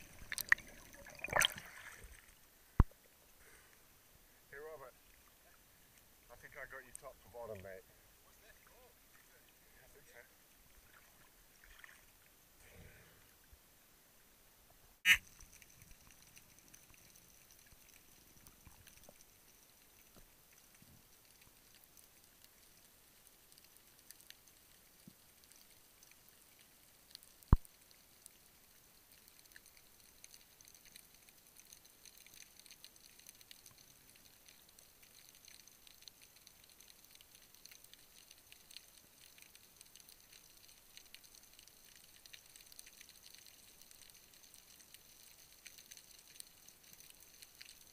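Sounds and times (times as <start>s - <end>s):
faint underwater crackle of clicks: 0.0s - 3.9s, 4.6s - 7.7s, 14.7s - 47.9s.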